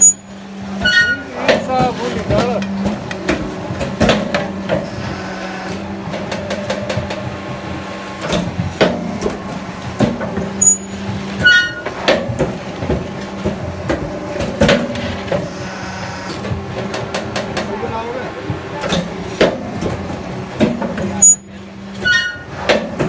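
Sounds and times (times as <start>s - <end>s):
concrete mixer running: 0.0s - 23.0s
knocks and clatter: 0.7s - 15.6s, 16.3s - 21.2s.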